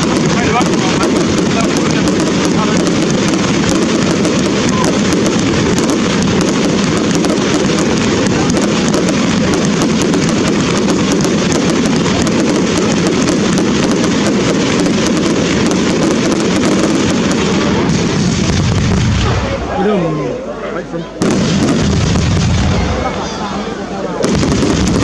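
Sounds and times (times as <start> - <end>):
fireworks bangs and crackling: 0.0 - 20.2, 21.2 - 25.0.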